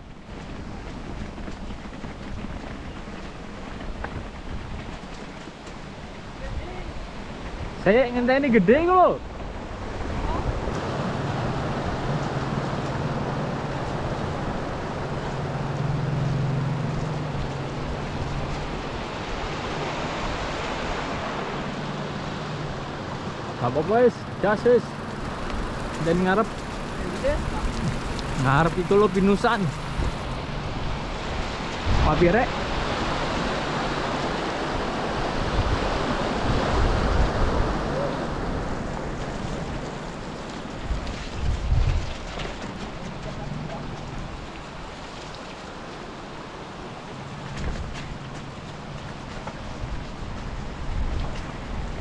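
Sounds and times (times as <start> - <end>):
wind buffeting microphone: 0.0 - 23.6, 24.2 - 52.0
wind and road noise: 0.0 - 52.0.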